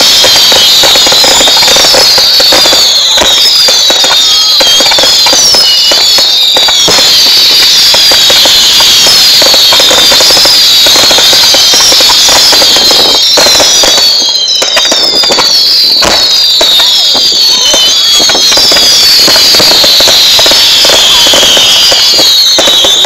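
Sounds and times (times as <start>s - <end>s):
falling firework whistles: 0.0s - 23.0s
fireworks crackling and popping: 0.0s - 23.0s.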